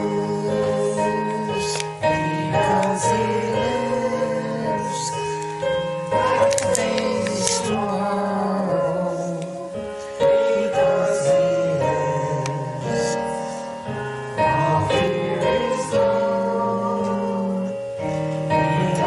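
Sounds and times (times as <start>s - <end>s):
keyboard accompaniment: 0.0s - 19.0s
voices singing a hymn: 0.0s - 19.0s.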